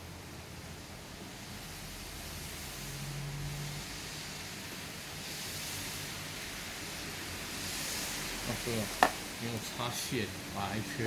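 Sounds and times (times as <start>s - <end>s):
computer cooling fans whooshing: 0.0s - 11.0s.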